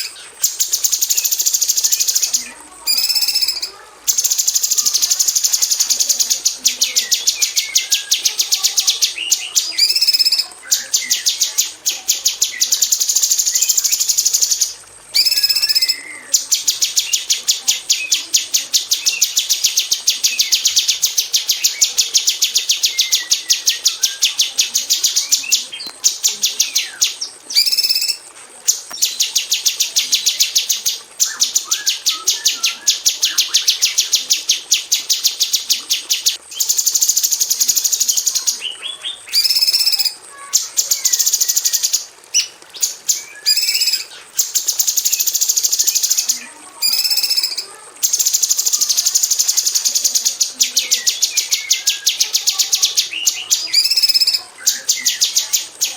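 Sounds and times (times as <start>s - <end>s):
bird calling in rapid high notes: 0.0s - 55.9s.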